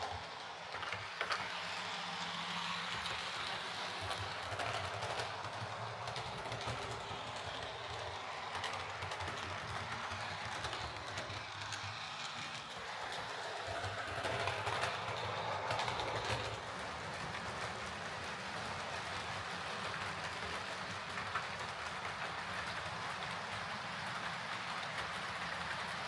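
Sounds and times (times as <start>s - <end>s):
model train motor whirring: 0.0s - 26.0s
wheels clicking over rail joints: 0.0s - 26.0s.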